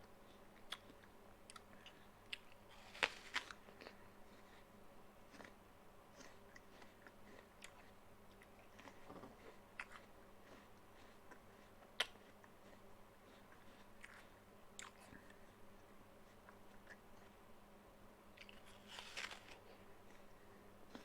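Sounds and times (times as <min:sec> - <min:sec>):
apple chewing and crunching: 0:00.0 - 0:04.6, 0:05.2 - 0:15.6, 0:18.3 - 0:21.0.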